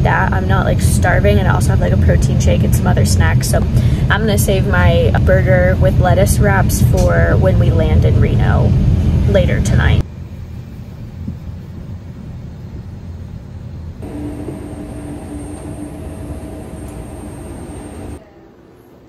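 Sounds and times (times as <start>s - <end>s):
low rumble of aircraft cabin: 0.0s - 19.0s
steady hum with constant tone: 0.0s - 19.0s.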